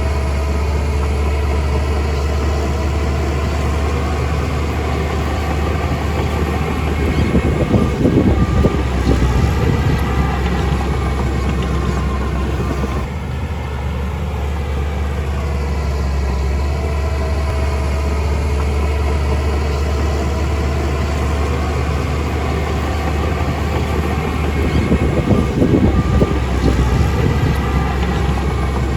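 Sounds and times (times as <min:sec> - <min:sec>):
diesel engine running under load: 0:00.0 - 0:28.9.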